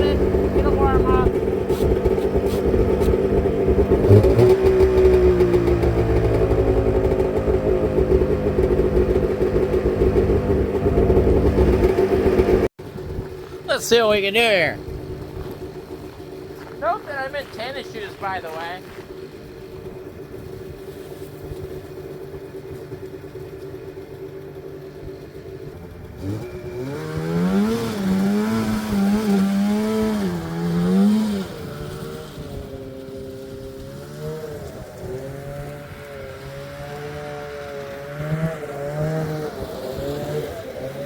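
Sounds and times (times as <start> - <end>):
snowmobile engine idling and revving: 0.0 - 41.0.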